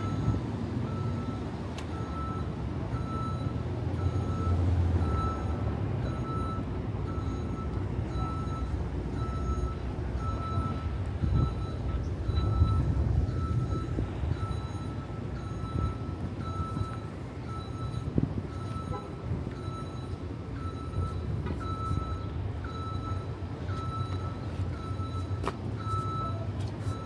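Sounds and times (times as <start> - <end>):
backup alarm beeping: 0.0 - 27.0
street traffic rumble: 0.0 - 27.0.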